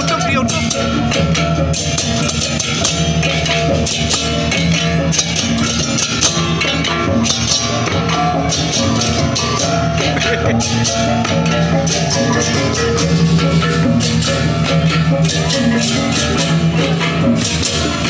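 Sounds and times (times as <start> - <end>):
drums: 0.0 - 18.0
gamelan marching music: 0.0 - 18.0
rapid clashing cymbals: 0.0 - 18.0.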